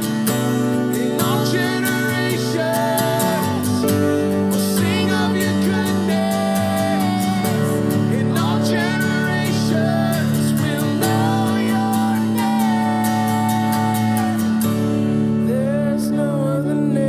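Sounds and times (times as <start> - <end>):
acoustic guitar: 0.0 - 17.0
person singing: 0.0 - 17.0.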